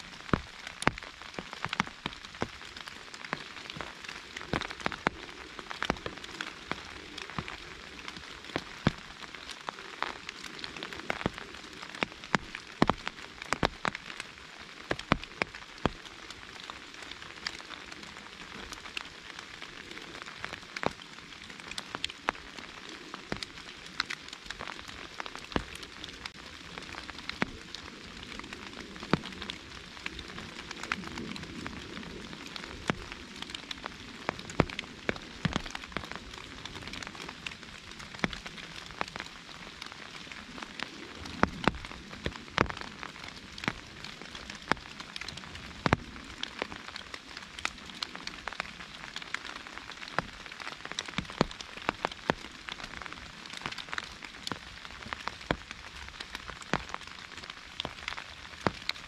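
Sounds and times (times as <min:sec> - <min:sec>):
rain on forest leaves: 0:00.0 - 0:59.0
rain pattering on an umbrella: 0:00.0 - 0:59.0.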